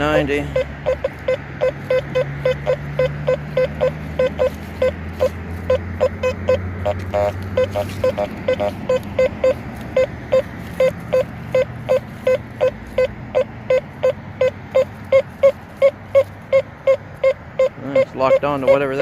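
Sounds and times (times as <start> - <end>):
metal detector short low beeps: 0.0 - 19.0.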